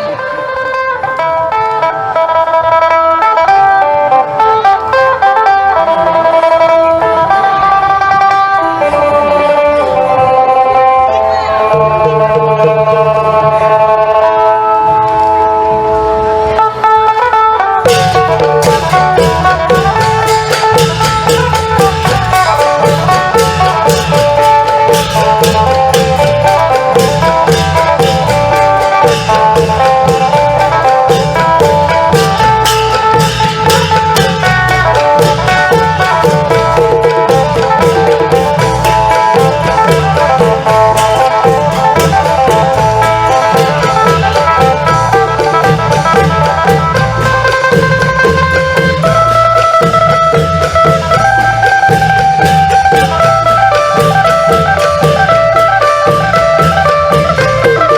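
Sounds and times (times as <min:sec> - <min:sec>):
long drums and percussion beat: 0:00.0 - 0:15.4, 0:16.5 - 0:57.9
plucked lute melody: 0:00.0 - 0:57.9.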